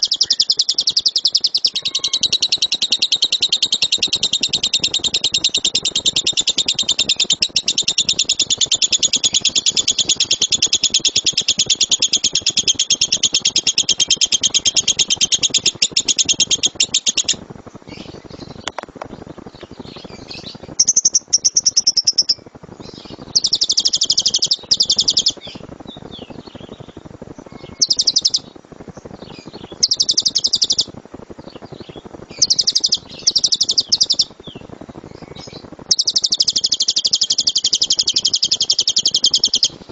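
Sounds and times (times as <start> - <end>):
lovebird chattering trill: 0.0 - 18.7, 19.9 - 25.6, 27.5 - 28.5, 29.4 - 30.9, 31.8 - 34.4, 35.2 - 39.9.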